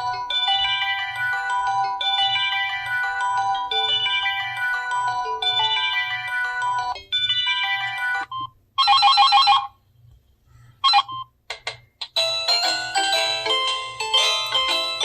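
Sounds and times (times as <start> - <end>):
chiming ringtone melody: 0.0 - 9.7, 12.2 - 15.0.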